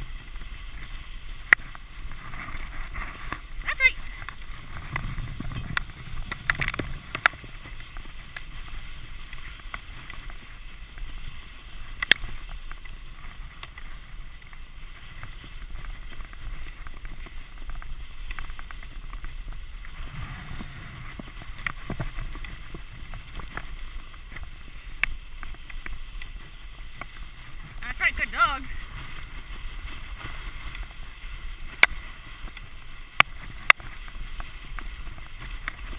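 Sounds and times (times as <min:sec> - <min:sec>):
sled clicks and knocks: 0:00.0 - 0:35.9
sled runners hissing on snow: 0:00.0 - 0:35.9.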